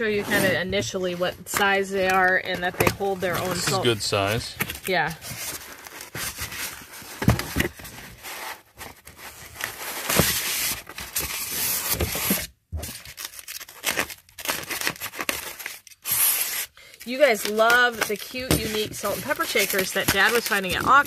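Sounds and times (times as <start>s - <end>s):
styrofoam scraping cardboard: 0.0s - 21.0s
bubble wrap crinkling: 3.2s - 21.0s.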